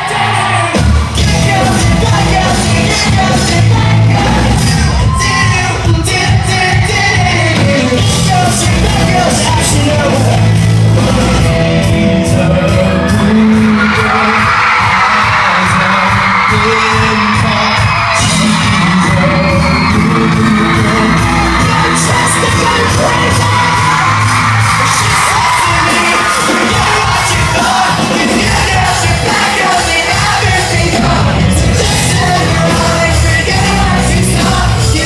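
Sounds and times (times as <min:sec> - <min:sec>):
bass guitar: 0:00.0 - 0:35.0
drums: 0:00.0 - 0:35.0
person singing: 0:00.0 - 0:35.0.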